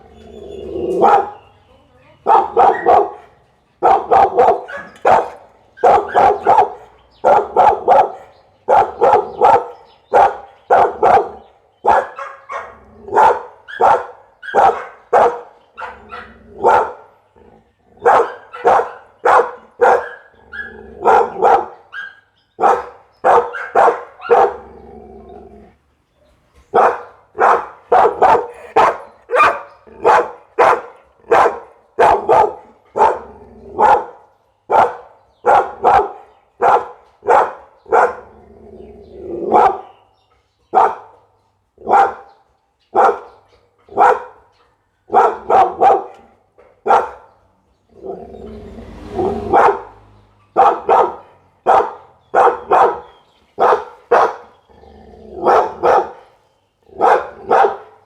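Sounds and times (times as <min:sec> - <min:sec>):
dog barking: 0:00.9 - 0:01.5, 0:02.2 - 0:17.2, 0:18.0 - 0:24.7, 0:26.7 - 0:38.4, 0:39.4 - 0:40.0, 0:40.7 - 0:54.5, 0:55.4 - 0:58.0.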